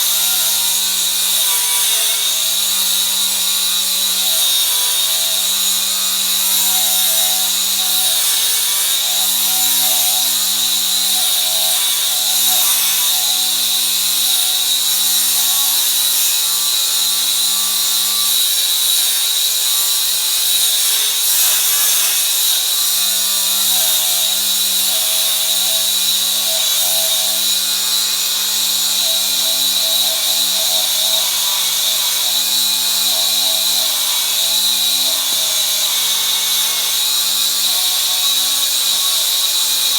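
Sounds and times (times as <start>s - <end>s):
angle grinder grinding paint: 0.0s - 39.9s.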